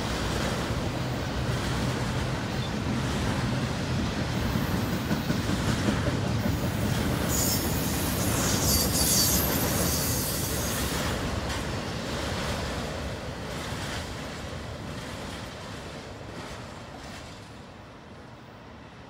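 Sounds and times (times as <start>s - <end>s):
train wheels rumbling: 0.0s - 18.2s.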